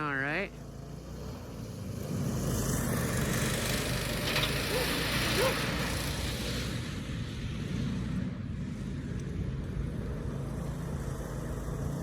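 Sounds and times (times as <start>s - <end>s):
small race car engine running: 0.4s - 12.0s.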